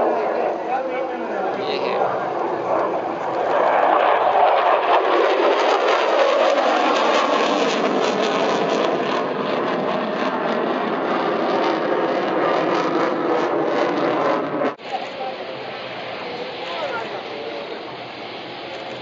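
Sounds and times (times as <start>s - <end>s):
jet engine flying overhead: 0.0s - 19.0s.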